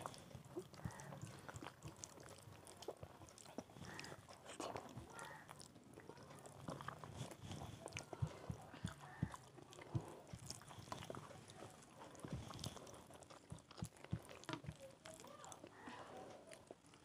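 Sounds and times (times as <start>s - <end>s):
chewing and mouth clicks: 0.0s - 17.0s.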